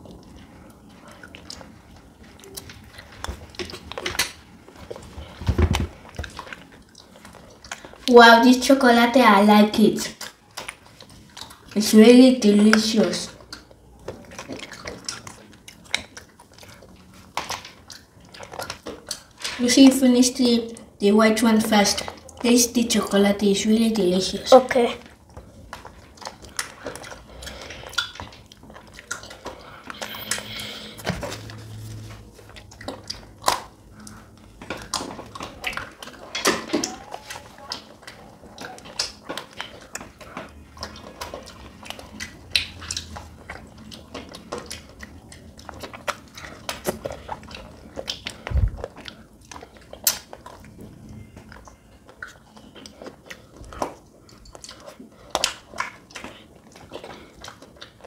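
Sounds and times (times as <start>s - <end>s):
children eating ice cream: 0.0s - 58.0s.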